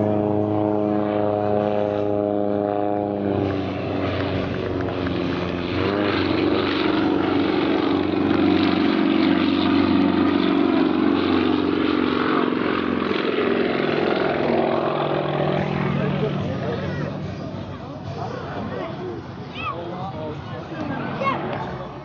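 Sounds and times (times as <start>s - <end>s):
propeller plane engine running hard: 0.0s - 22.0s.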